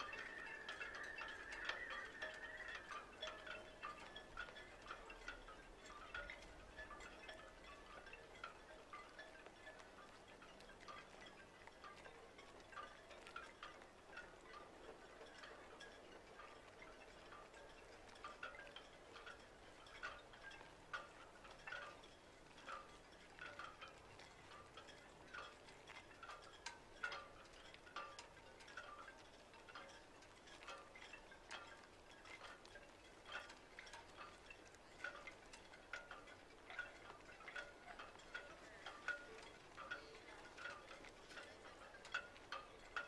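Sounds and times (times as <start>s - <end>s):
soft chime-like plucked music: 0.0s - 43.0s.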